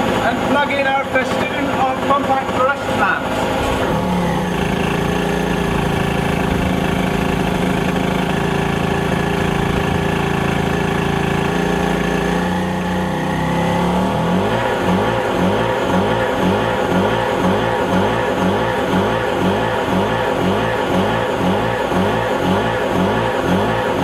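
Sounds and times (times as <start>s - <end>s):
portable generator running: 0.0s - 24.0s.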